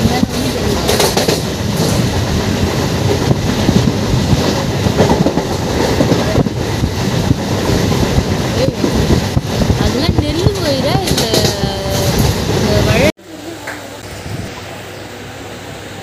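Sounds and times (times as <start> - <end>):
wheels knocking on track: 0.0 - 13.1
train rumbling inside coach: 0.0 - 16.0.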